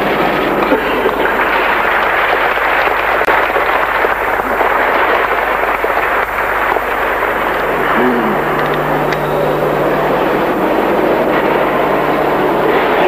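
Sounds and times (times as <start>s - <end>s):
videotape hiss and crackle: 0.0s - 13.0s.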